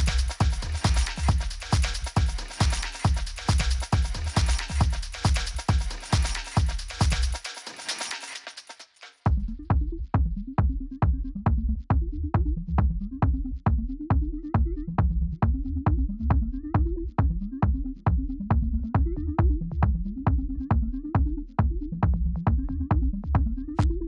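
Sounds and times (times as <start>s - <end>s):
sliding bass line: 0.0s - 2.4s, 3.1s - 5.6s, 9.3s - 24.0s
electronic music with steady beat: 0.0s - 24.0s.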